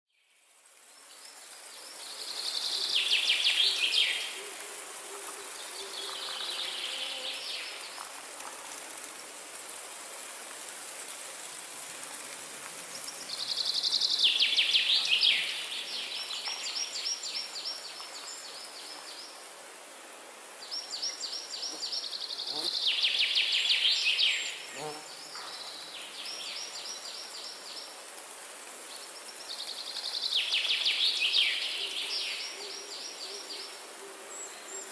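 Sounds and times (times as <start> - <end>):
light rain hissing: 0.2 - 34.9.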